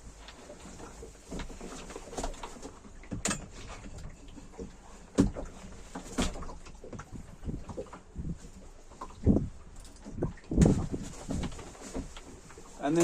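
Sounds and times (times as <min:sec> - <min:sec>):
knocks and thuds on a boat: 0:00.0 - 0:13.0.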